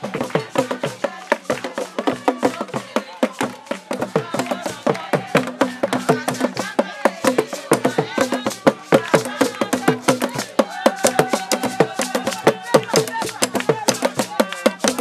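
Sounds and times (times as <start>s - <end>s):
lively music with fast percussion: 0.0s - 15.0s.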